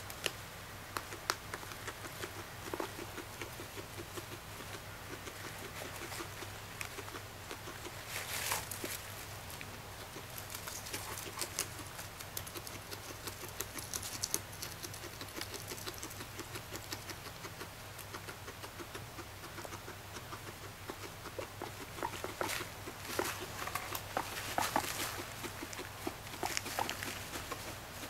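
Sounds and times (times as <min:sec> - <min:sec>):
guinea pig chewing hay: 0:00.0 - 0:28.0.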